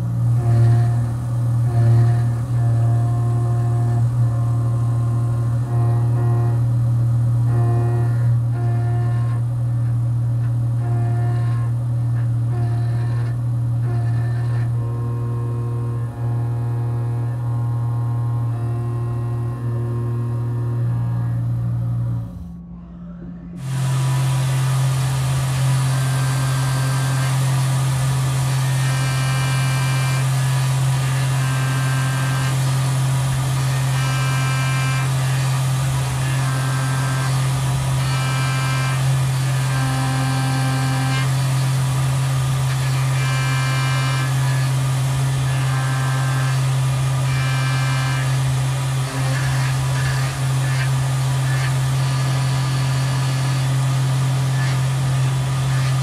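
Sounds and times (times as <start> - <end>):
mill spindle humming: 0.0 - 56.0.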